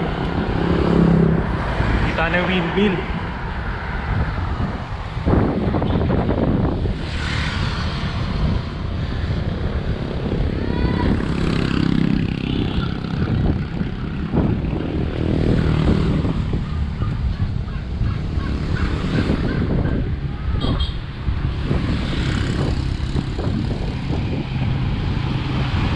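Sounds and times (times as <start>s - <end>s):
road noise: 0.0s - 25.9s
wind buffeting microphone: 0.0s - 25.9s.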